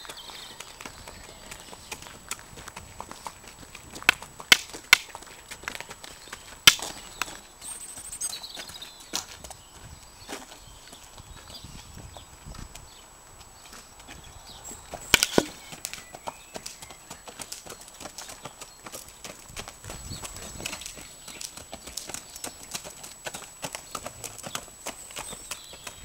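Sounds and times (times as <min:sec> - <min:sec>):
footsteps on gravel: 0:00.0 - 0:26.0
hooves on gravel: 0:00.0 - 0:26.0.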